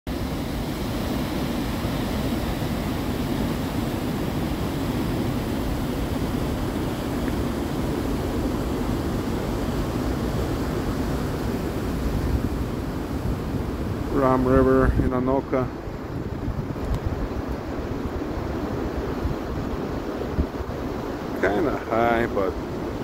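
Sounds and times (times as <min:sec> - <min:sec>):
river rushing over a spillway: 0:00.1 - 0:23.0.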